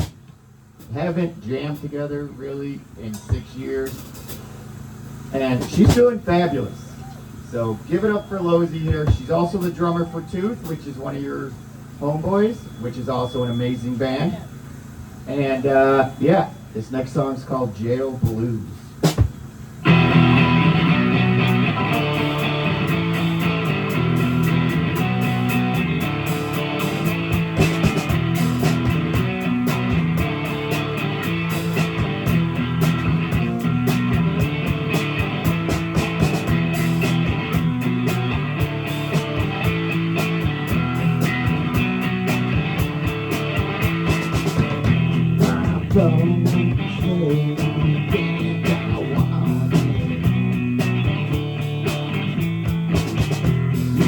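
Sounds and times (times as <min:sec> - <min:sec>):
drum kit beat: 0:00.0 - 0:02.0, 0:03.1 - 0:13.6, 0:18.2 - 0:54.0
bass guitar: 0:00.0 - 0:54.0
guitar: 0:00.0 - 0:54.0.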